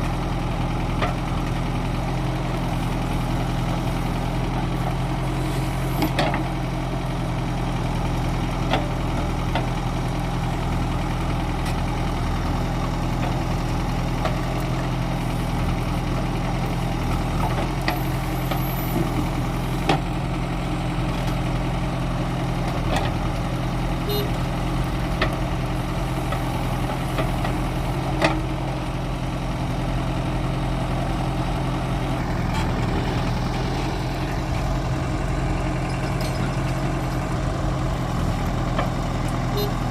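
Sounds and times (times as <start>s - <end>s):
heavy diesel engine idling: 0.0s - 39.9s.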